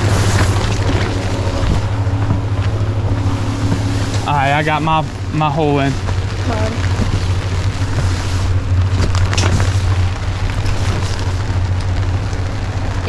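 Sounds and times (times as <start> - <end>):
rain falling: 0.0 - 13.0
wind buffeting microphone: 0.0 - 13.0.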